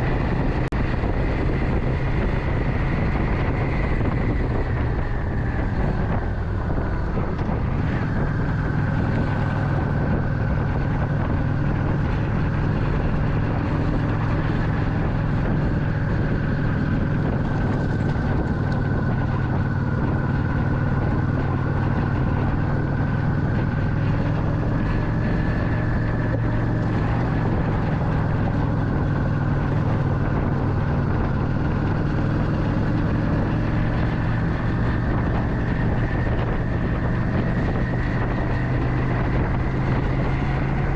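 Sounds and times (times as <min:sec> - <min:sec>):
motorcycle engine running: 0:00.0 - 0:40.9
wind rushing: 0:00.0 - 0:40.9.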